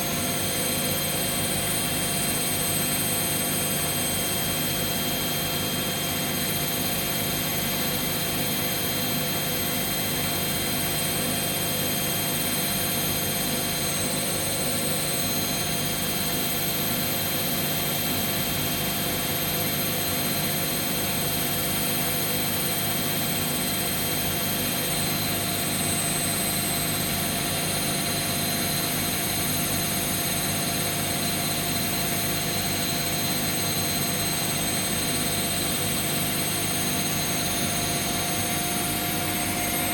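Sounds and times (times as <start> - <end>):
washing machines spinning: 0.0 - 39.9.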